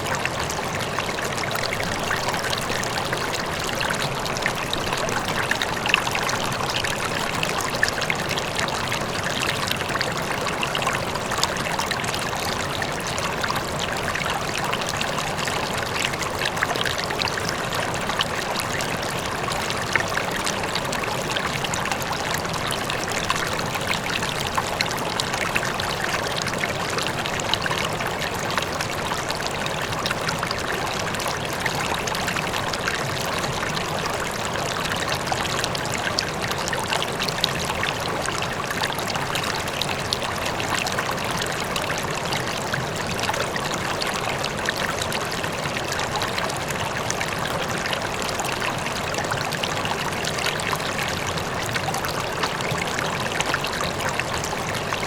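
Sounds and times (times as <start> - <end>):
faint waterfall: 0.0 - 55.0
river flowing: 0.0 - 55.0
water splashes and trickles: 0.0 - 55.0.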